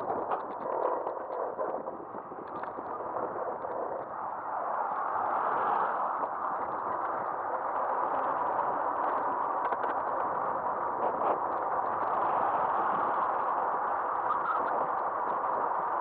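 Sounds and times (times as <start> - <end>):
road noise: 0.0 - 16.0
wind rush: 0.0 - 16.0.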